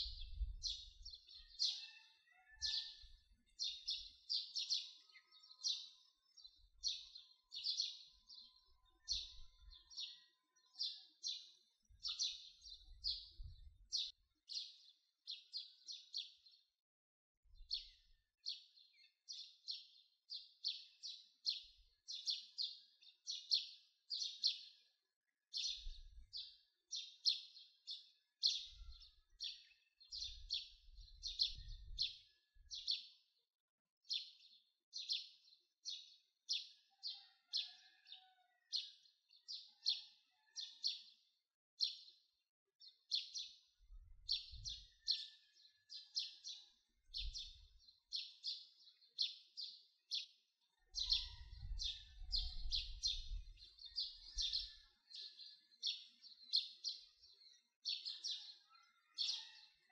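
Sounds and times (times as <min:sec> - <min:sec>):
small birds chirping: 0:00.0 - 0:16.6, 0:17.6 - 0:33.3, 0:41.8 - 0:58.2.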